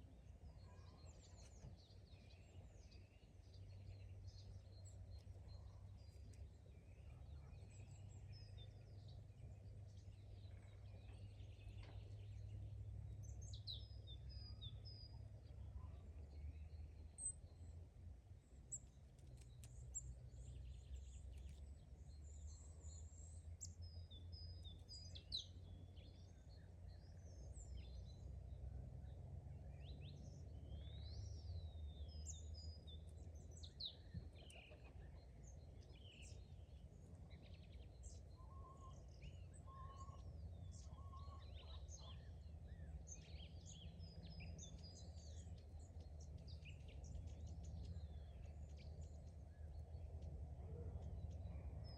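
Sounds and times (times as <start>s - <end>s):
birds chirping and trilling: 0.0s - 51.9s
low steady rumble: 0.0s - 51.9s.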